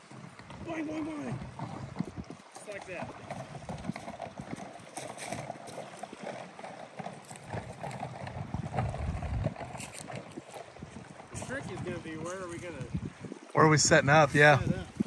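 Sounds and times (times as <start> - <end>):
paddle knocking against hull: 0.0 - 13.6, 14.5 - 15.0
paddle splashing in water: 0.0 - 15.0.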